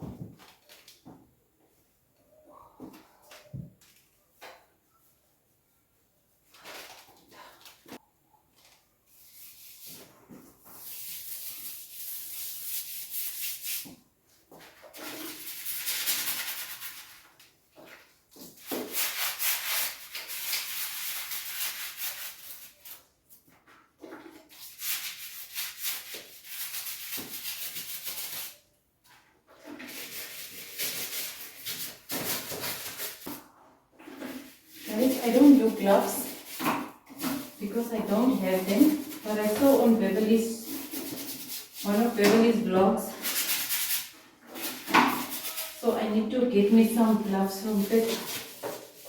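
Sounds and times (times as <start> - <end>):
toilet brush scrubbing bowl: 9.1 - 49.0.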